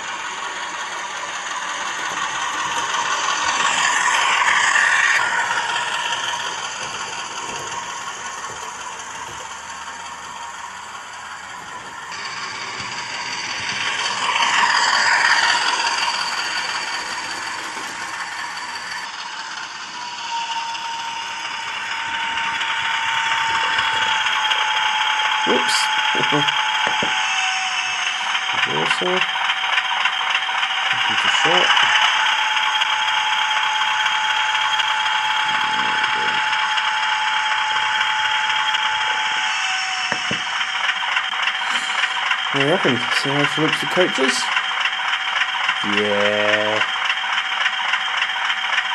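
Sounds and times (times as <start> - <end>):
model train rattle and whir: 0.0 - 48.9.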